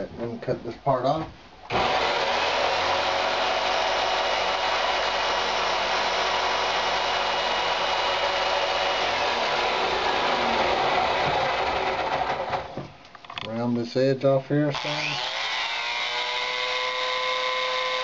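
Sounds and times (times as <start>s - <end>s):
power saw cutting wood: 1.7s - 12.8s, 14.7s - 18.0s.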